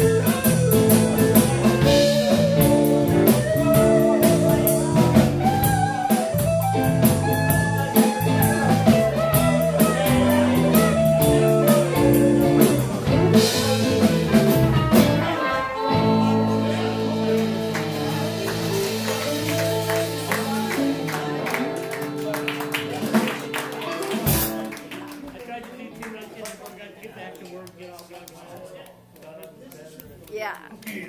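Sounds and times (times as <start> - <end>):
electric blues band playing: 0.0 - 25.4.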